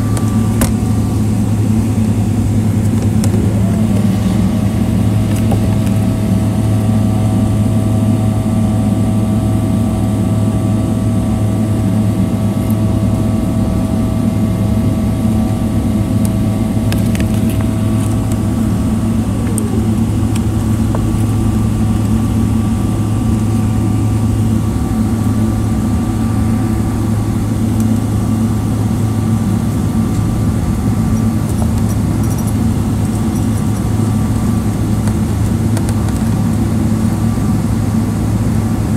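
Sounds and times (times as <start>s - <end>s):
cabin airflow noise: 0.0s - 9.2s, 10.9s - 38.9s
jet engine hum and whine: 0.0s - 38.9s.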